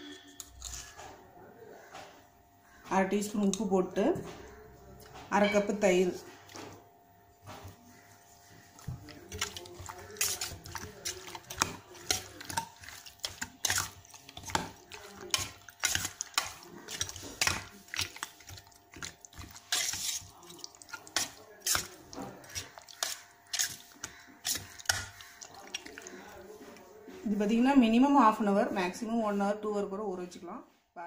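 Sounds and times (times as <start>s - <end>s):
wet squelches of hand mixing: 4.5s - 29.4s.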